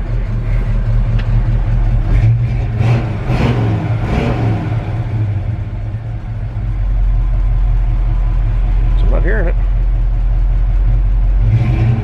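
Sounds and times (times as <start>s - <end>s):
truck engine low exhaust hum: 0.0s - 12.0s.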